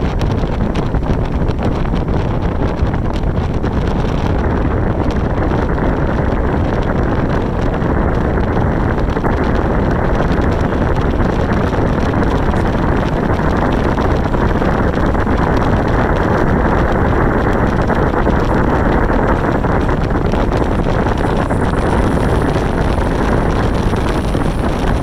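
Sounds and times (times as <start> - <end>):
moving vehicle rumble: 0.0 - 25.0
wind buffeting microphone: 0.0 - 25.0.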